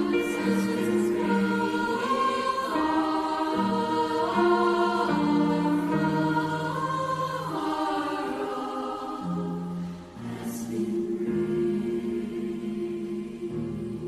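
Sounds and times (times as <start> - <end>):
youth choir singing chords: 0.0 - 14.0.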